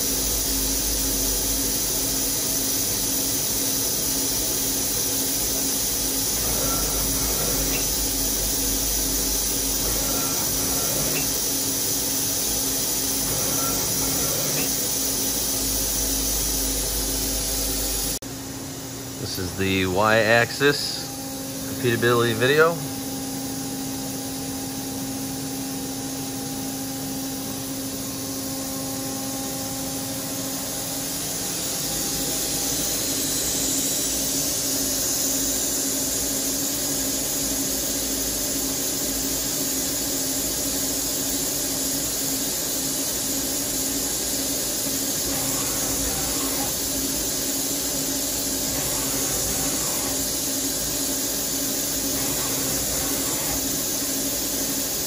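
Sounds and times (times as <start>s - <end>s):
machine hiss: 0.0s - 18.2s, 19.1s - 55.0s
cnc machine running hum: 0.0s - 55.0s.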